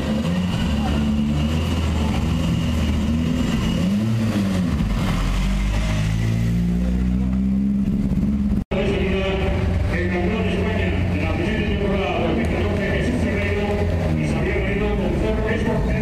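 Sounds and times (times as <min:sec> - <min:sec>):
rally car engine revving: 0:00.0 - 0:16.0
rally car engine running: 0:00.0 - 0:16.0.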